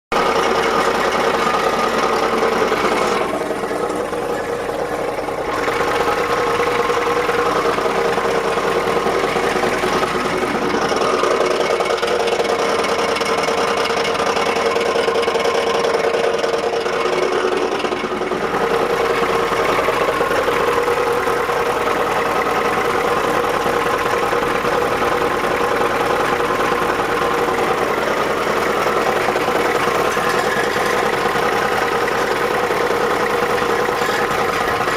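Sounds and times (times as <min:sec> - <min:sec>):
diesel engine idling: 0:00.1 - 0:34.9
engine grinding noise: 0:00.1 - 0:34.9.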